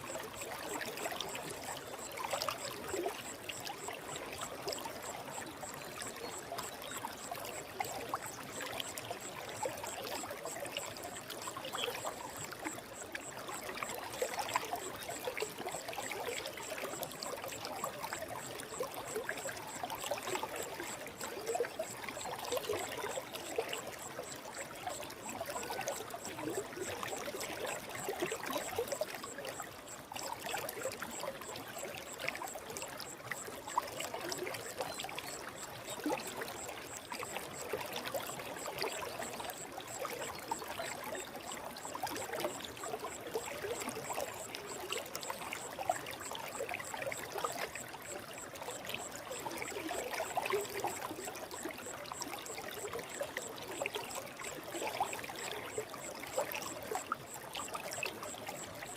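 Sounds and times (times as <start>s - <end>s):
small water splashes: 0.0s - 58.9s
stream flowing: 0.0s - 58.9s.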